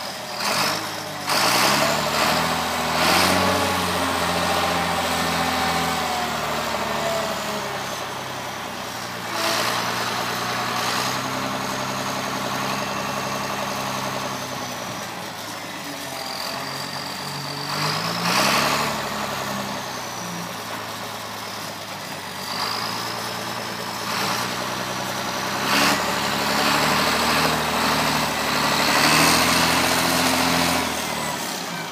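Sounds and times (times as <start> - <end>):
diesel engine under load: 0.0 - 31.9.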